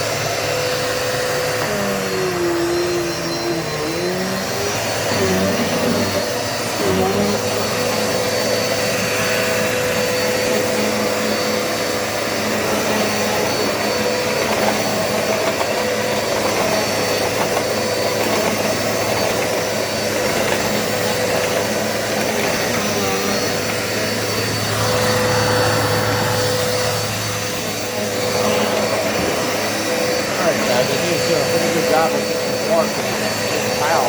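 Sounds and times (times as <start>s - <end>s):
vacuum cleaner running on carpet: 0.0s - 34.0s.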